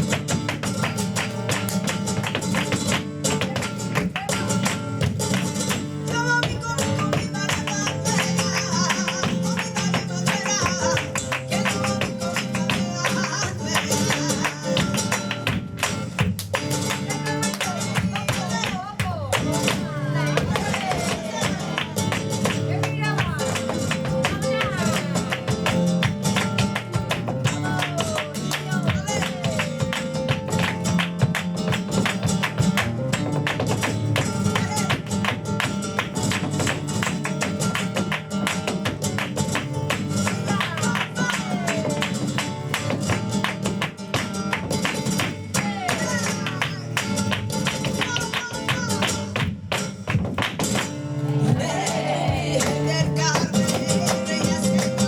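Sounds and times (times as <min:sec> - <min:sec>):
flamenco guitar: 0:00.0 - 0:55.0.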